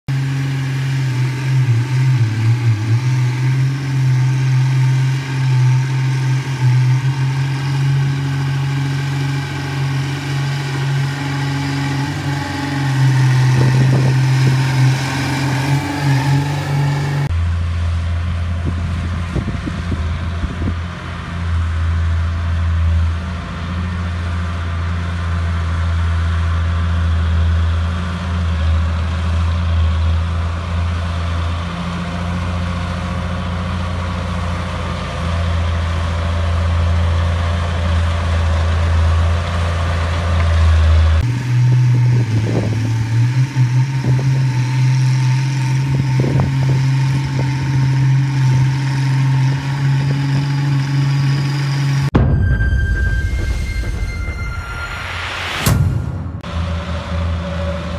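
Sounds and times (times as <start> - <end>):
bulldozer diesel engine drone: 0.0 - 57.9.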